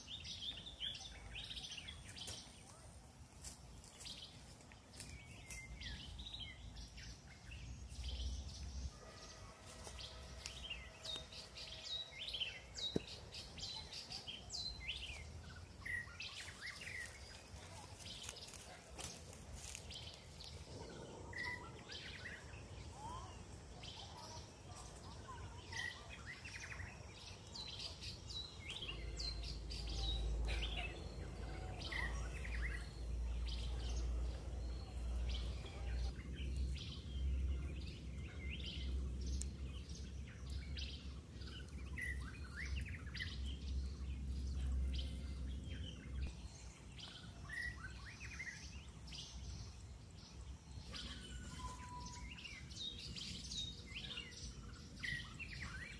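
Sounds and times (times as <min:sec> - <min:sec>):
low outdoor rumble: 0:00.3 - 0:55.0
birds chirping and calling: 0:03.4 - 0:55.9.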